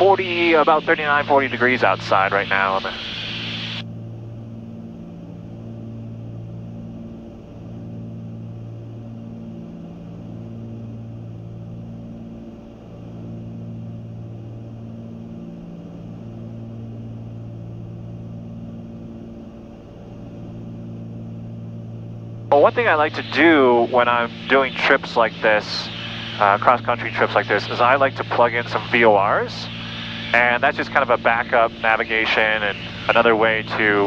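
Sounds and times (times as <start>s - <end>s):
propeller plane engines droning: 0.0s - 34.0s.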